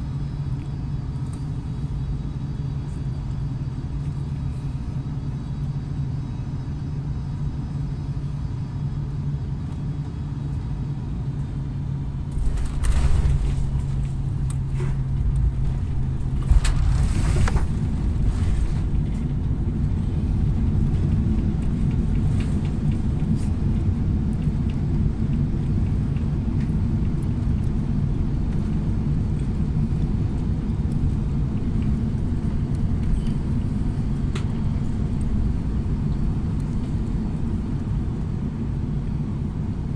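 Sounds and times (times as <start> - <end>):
airliner cabin low rumble: 0.0 - 39.9.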